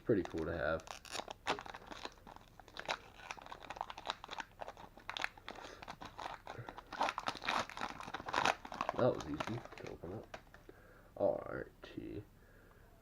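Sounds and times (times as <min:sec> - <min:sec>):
wrapper tearing and crinkling: 0:00.0 - 0:10.5.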